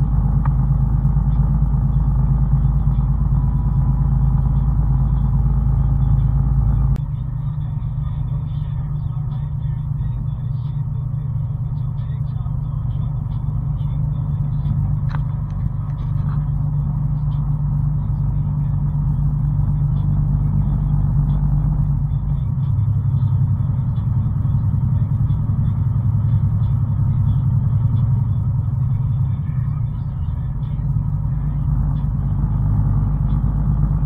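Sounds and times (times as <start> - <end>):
vehicle engine and road rumble: 0.0 - 34.0.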